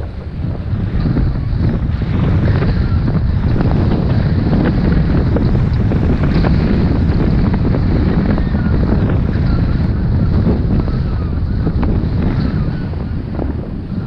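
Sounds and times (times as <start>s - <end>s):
snowboard scraping over snow: 0.0s - 14.0s
wind buffeting microphone: 0.0s - 14.0s.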